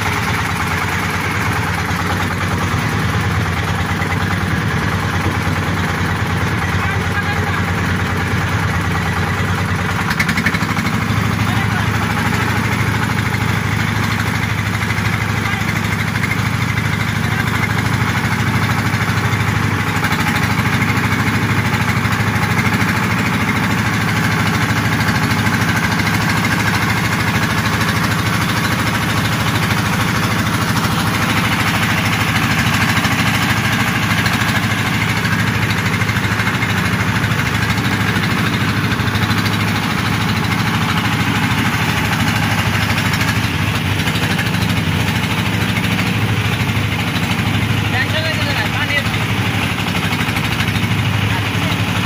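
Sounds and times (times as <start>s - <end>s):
motor boat engine droning: 0.0s - 52.0s.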